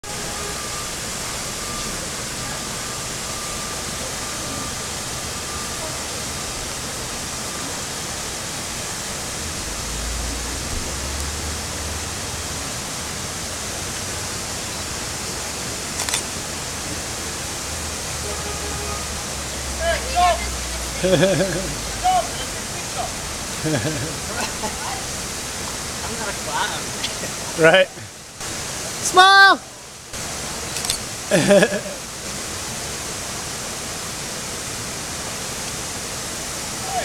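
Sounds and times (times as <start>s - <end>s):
waterfall rushing into pool: 0.0s - 37.0s.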